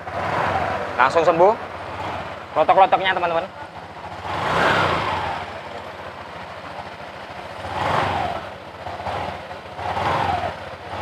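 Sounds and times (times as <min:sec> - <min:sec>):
drive belt and pulleys spinning: 0:00.0 - 0:11.0
scooter engine revving: 0:00.0 - 0:11.0.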